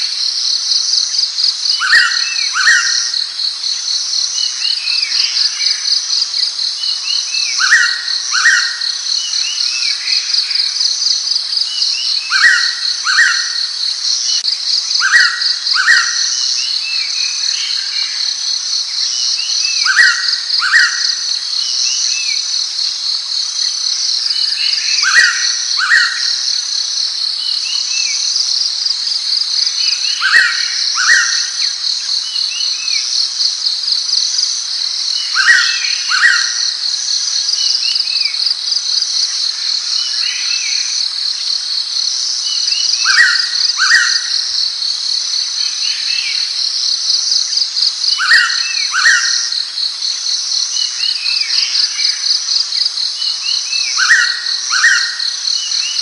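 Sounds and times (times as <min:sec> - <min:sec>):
small birds chirping: 0:00.9 - 0:44.6, 0:45.4 - 0:56.0.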